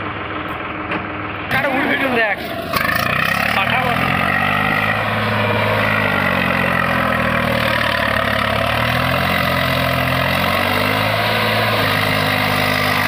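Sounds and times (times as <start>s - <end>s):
diesel tractor engine under load: 0.0s - 13.0s.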